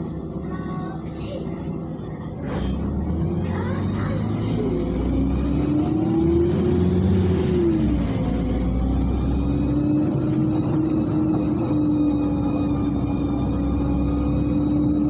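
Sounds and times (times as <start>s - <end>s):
bus engine rumble: 0.0s - 15.0s
driveline whine: 0.0s - 15.0s.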